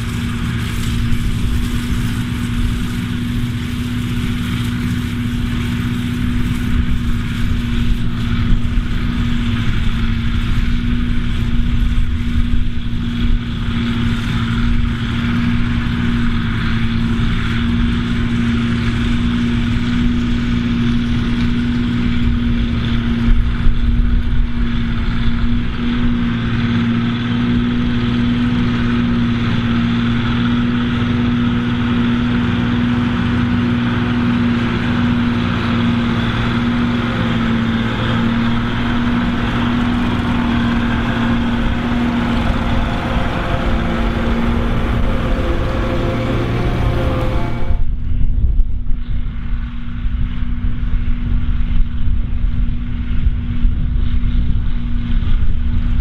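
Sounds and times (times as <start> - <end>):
forage harvester chopping grass: 0.0 - 47.7
tractor diesel engine under load: 0.0 - 48.3
smaller tractor running: 0.0 - 56.0.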